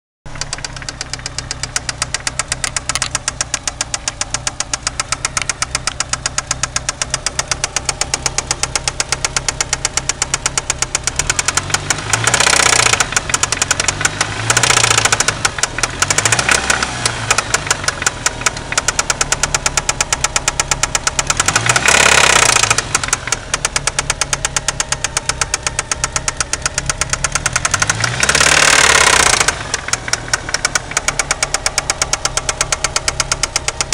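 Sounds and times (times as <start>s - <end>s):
engine knocking: 0.3s - 33.9s
engine revving: 0.3s - 33.9s.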